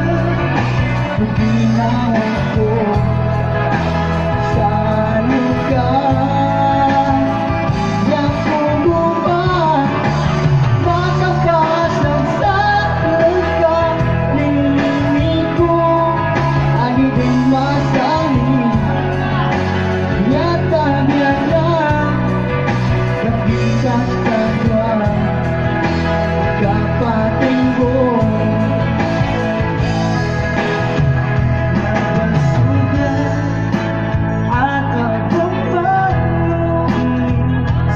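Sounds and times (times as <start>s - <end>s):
electronic keyboard music: 0.0s - 37.9s
man singing into a microphone: 0.0s - 37.9s.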